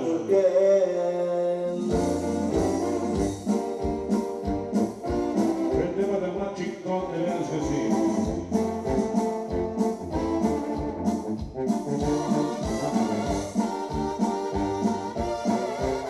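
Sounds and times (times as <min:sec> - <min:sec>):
dance music with brass horns: 0:00.8 - 0:16.0.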